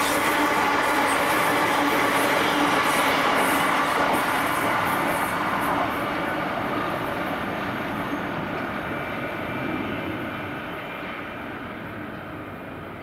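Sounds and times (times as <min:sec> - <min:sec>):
passenger train receding: 0:00.0 - 0:13.0
passenger train wheel clatter: 0:00.0 - 0:13.0.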